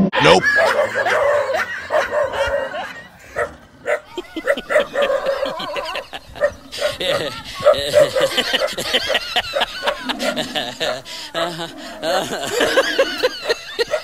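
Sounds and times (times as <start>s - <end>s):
dog barking and yipping: 0.4s - 11.1s, 12.5s - 14.0s.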